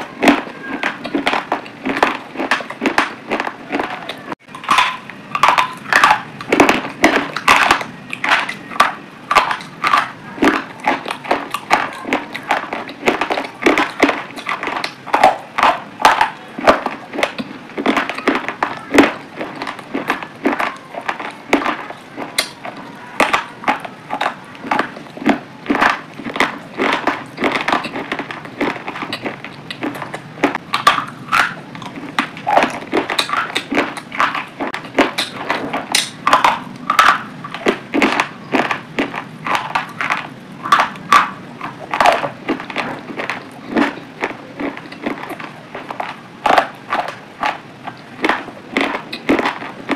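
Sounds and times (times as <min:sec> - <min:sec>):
chewing crunches: 0:00.0 - 0:49.9.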